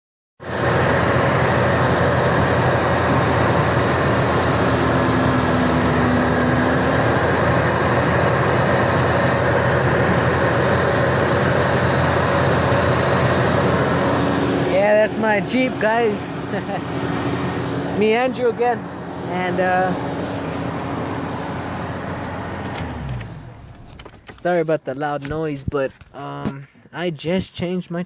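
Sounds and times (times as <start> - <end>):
car engine running loudly: 0.4 - 24.5.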